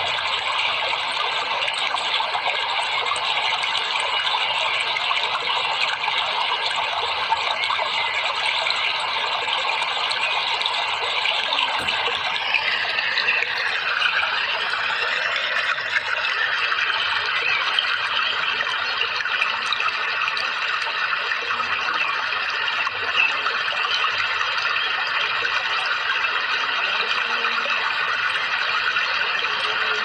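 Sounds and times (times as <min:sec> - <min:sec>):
water flowing and splashing: 0:00.0 - 0:30.0.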